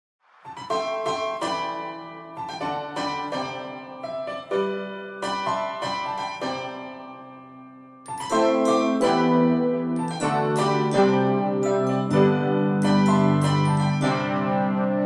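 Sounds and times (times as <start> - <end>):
piano playing chords: 0.5 - 15.0.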